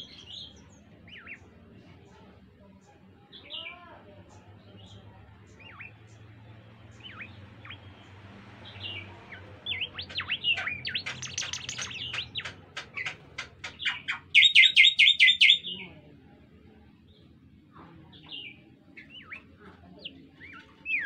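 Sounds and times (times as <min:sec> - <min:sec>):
bird singing: 0:00.0 - 0:01.5, 0:03.3 - 0:15.9, 0:18.1 - 0:21.0.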